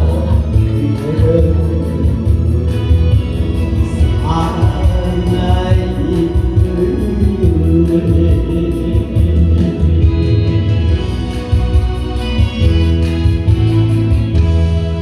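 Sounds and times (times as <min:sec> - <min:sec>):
music with singing: 0:00.0 - 0:15.0
steady beat with heavy bass: 0:00.0 - 0:15.0.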